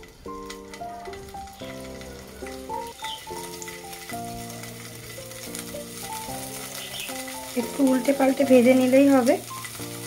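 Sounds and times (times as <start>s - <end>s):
background music of held chords: 0.0s - 10.0s
cheese sizzling in hot oil: 0.0s - 10.0s.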